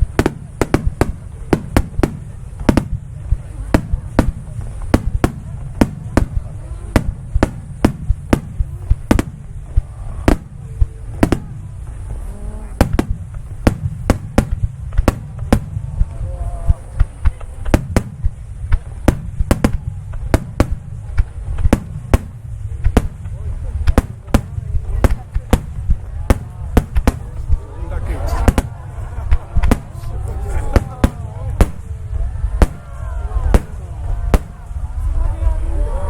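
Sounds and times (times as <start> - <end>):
firework shells bursting: 0.0 - 27.6, 28.2 - 34.8
low rumble: 0.0 - 36.0.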